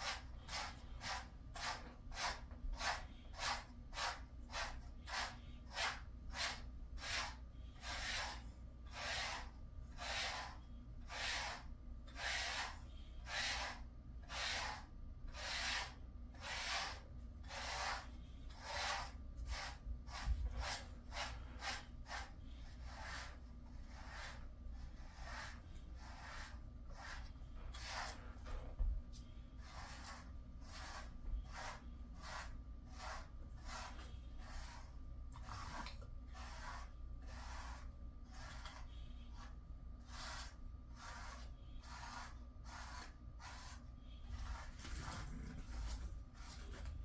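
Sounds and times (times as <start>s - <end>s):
brush strokes through dog fur: 0.0s - 47.0s.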